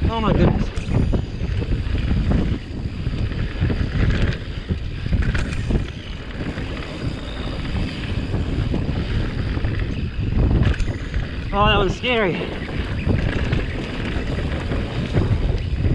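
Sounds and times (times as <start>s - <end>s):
bike tyres rumbling on dirt: 0.0s - 15.9s
wind buffeting microphone: 0.0s - 15.9s
bike knocks and rattles: 0.6s - 11.5s, 12.5s - 15.9s.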